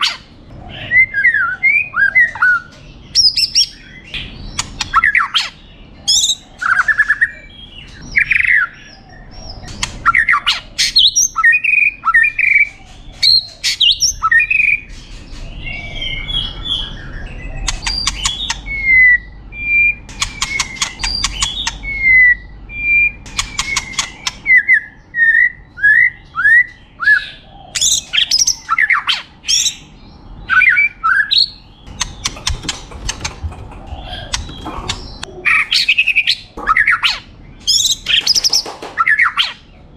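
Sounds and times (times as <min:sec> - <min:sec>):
bird singing trills and whistles: 0:00.0 - 0:39.8.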